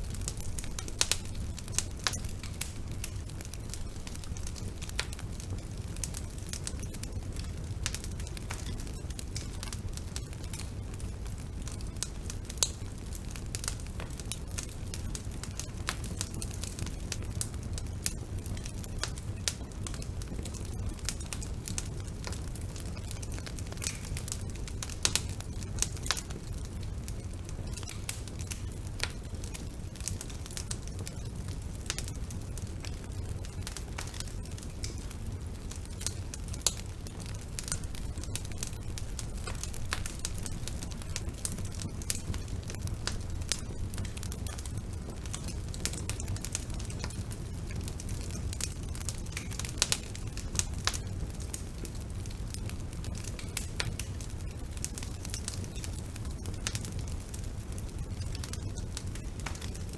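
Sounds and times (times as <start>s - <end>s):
fire rumbling: 0.0s - 59.9s
logs crackling and popping: 0.0s - 59.9s.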